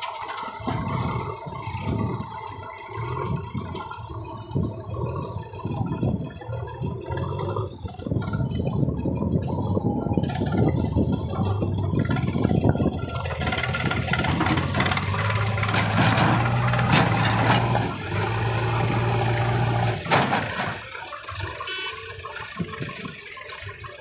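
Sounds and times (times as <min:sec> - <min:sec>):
diesel engines under load: 0:00.0 - 0:24.0.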